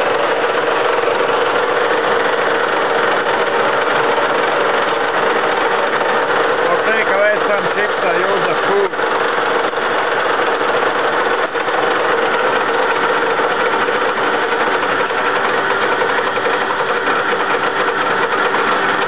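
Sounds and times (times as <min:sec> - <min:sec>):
lathe cutting metal: 0:00.0 - 0:19.0.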